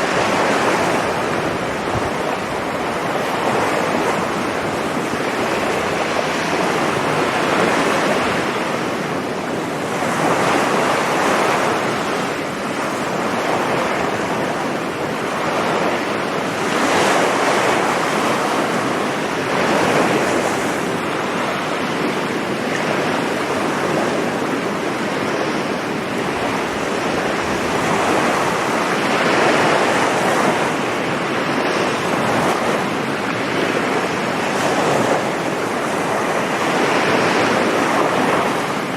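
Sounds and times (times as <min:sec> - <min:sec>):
sea waves breaking on beach: 0:00.0 - 0:38.9
wind on microphone: 0:00.0 - 0:38.9.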